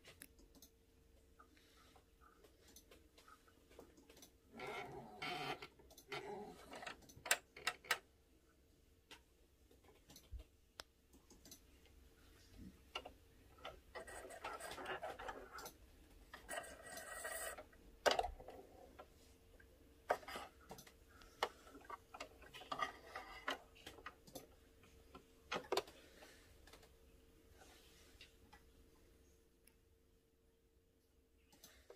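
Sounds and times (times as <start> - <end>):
rustling of hands and thread: 0.0 - 30.0.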